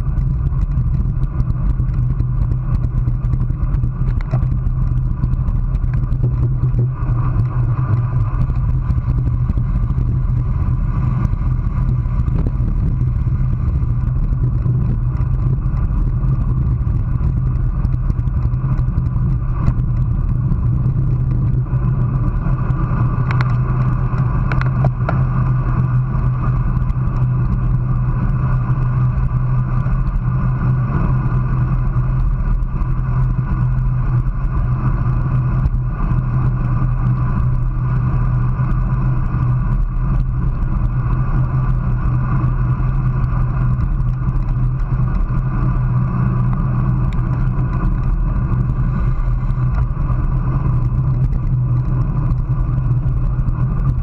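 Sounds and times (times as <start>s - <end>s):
wind and tyre rumble: 0.0s - 54.0s.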